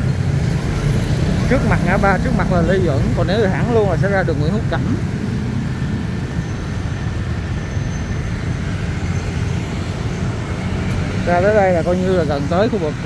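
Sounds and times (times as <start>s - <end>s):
city road traffic rumble: 0.0s - 13.0s.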